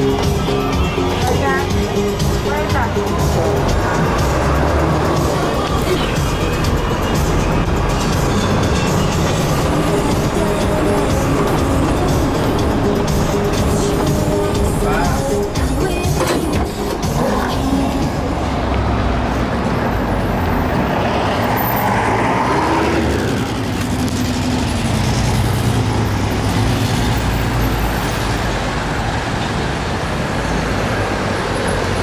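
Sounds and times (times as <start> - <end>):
bus and car engines passing: 0.0 - 32.0.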